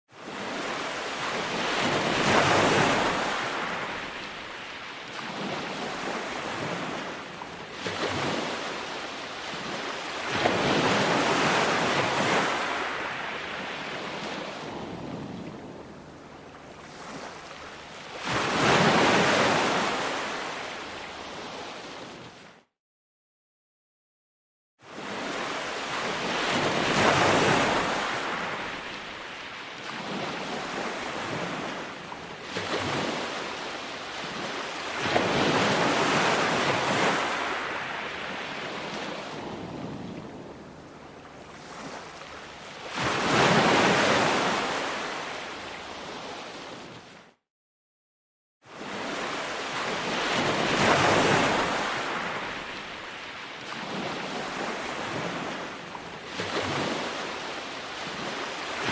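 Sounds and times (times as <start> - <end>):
ocean surf breaking on beach: 0.2 - 15.9, 24.9 - 40.6, 41.6 - 47.1, 48.7 - 58.9.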